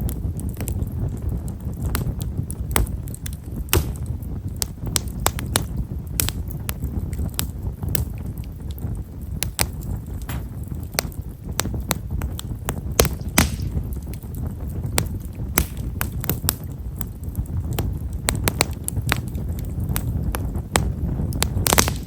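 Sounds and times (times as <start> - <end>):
firewood crackling: 0.0 - 22.0
low rumble of fire: 0.0 - 22.0.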